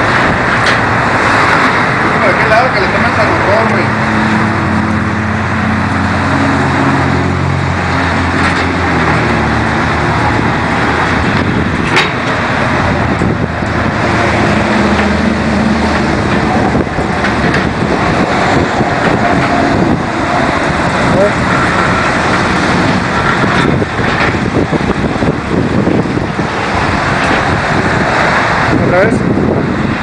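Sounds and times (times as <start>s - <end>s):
traffic noise with engine hum: 0.0s - 30.0s.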